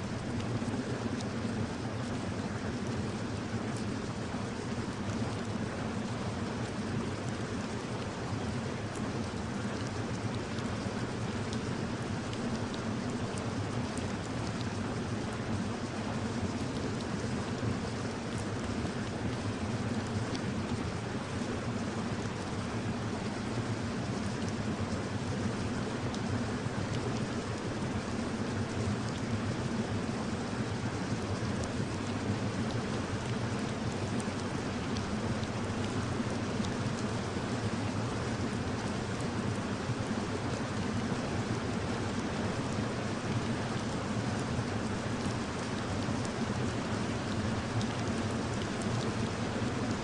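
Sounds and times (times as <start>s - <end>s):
steady rain hiss: 0.0s - 50.0s
rain drop ticks: 0.2s - 7.8s, 8.5s - 44.0s, 44.6s - 50.0s.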